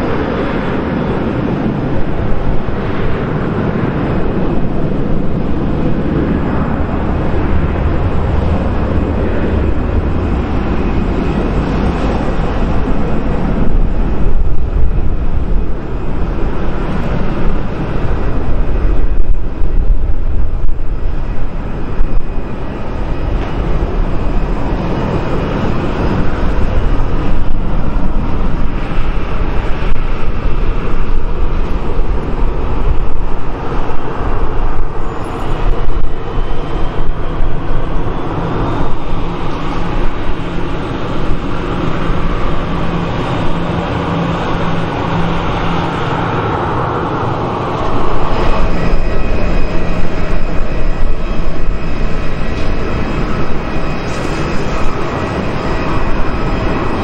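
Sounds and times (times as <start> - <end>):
jet engines rumbling at takeoff: 0.0 - 57.0.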